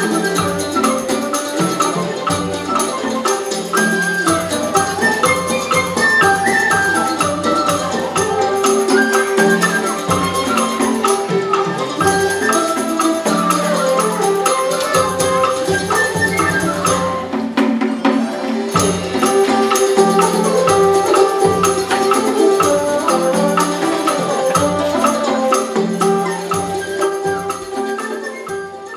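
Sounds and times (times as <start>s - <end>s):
instrumental melody: 0.0s - 28.9s
rattling jingling percussion: 0.0s - 28.9s.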